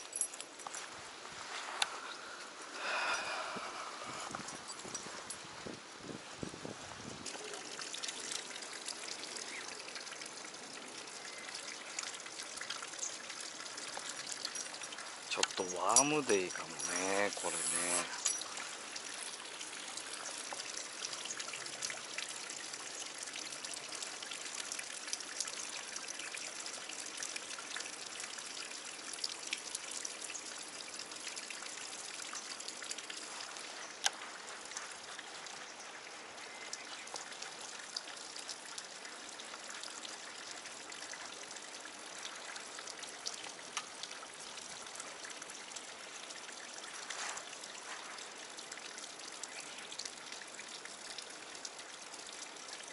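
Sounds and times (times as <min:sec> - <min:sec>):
water trickling and dripping: 0:00.0 - 0:52.9.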